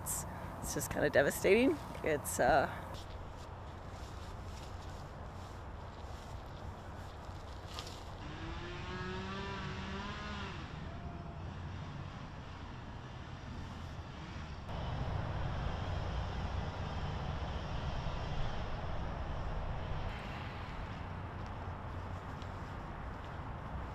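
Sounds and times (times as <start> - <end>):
outdoor background rumble: 0.0 - 23.9.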